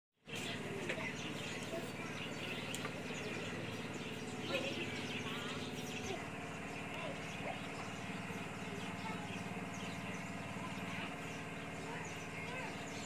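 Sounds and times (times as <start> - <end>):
low mechanical hum: 0.2 - 13.0
small birds chirping: 0.2 - 13.0.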